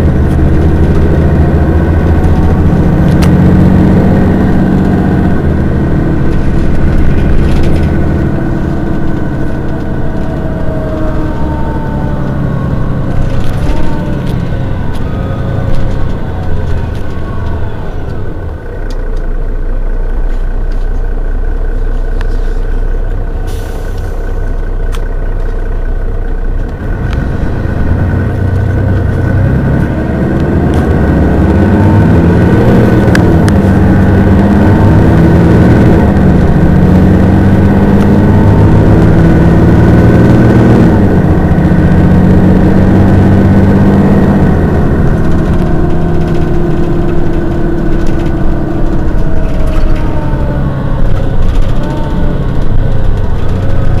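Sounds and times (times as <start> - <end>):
bus diesel engine accelerating: 0.0 - 54.0.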